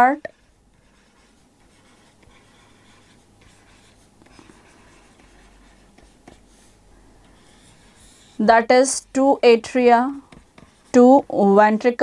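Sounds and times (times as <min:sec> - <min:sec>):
stylus scratching on writing pad: 0:00.0 - 0:11.4
low room hum: 0:00.0 - 0:12.0.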